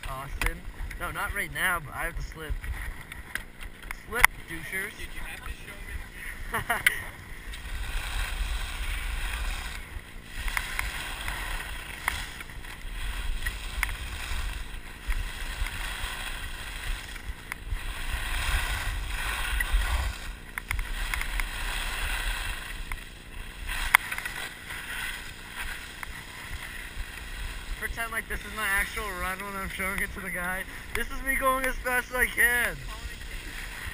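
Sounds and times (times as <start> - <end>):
skis scraping on packed snow: 0.0 - 33.9.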